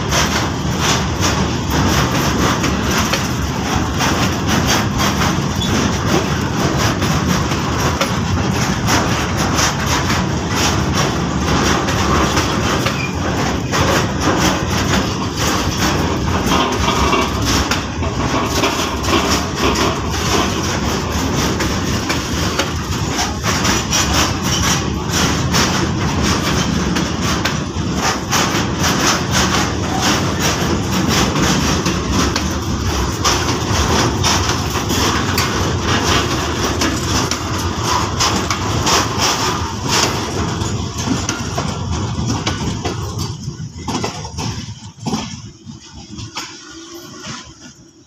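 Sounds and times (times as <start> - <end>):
clanks and knocks of couplings: 0.0 - 48.0
freight train rumbling past: 0.0 - 48.0.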